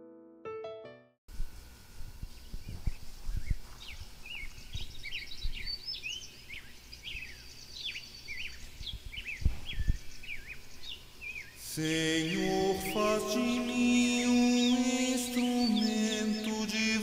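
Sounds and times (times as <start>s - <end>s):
small birds chirping: 2.2s - 17.0s.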